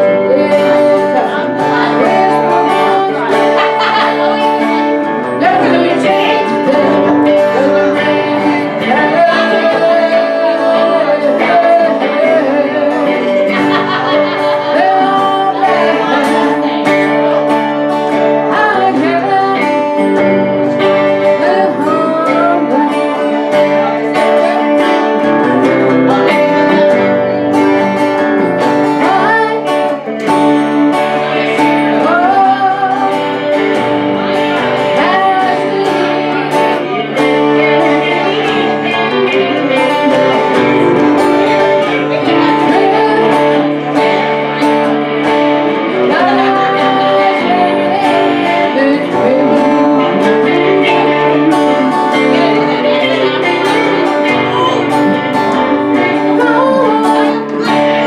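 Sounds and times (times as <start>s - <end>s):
woman singing: 0.0s - 27.8s, 28.6s - 44.9s, 45.6s - 58.0s
electric lead guitar: 0.0s - 58.0s
strummed acoustic guitar: 0.0s - 58.0s.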